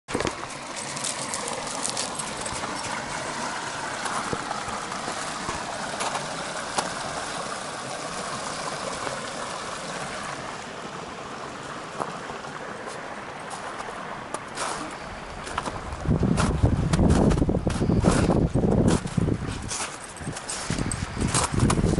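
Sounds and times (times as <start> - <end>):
stream running over rocks: 0.1 - 21.9.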